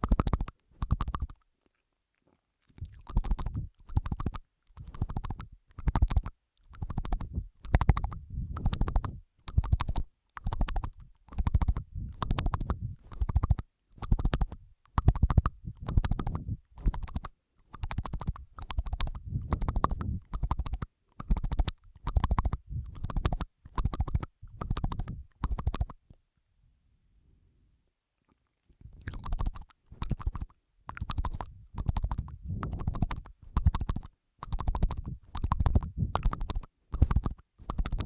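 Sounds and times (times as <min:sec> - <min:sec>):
wet licking and smacking: 0:00.0 - 0:01.9, 0:02.6 - 0:26.1, 0:28.3 - 0:38.0.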